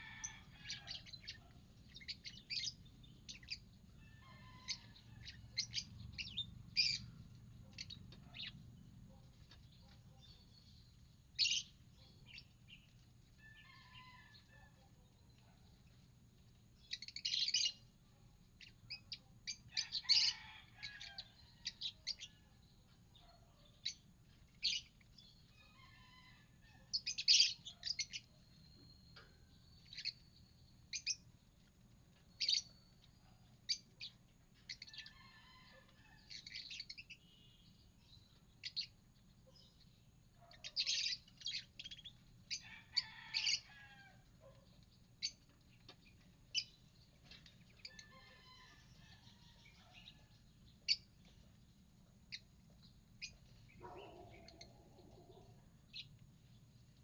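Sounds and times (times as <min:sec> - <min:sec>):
lovebirds chirping: 0:00.0 - 0:15.5, 0:16.8 - 0:17.9, 0:18.6 - 0:35.4, 0:36.1 - 0:56.7.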